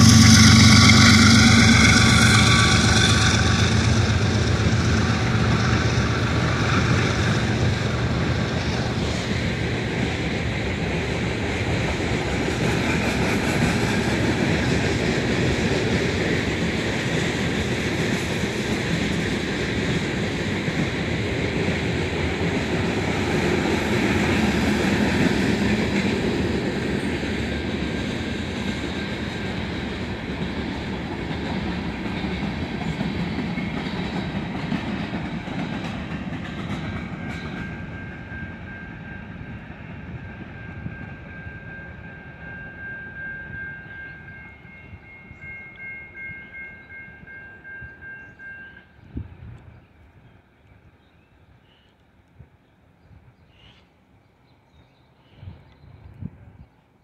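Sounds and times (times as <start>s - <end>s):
freight train cars rolling past: 0.0s - 51.0s.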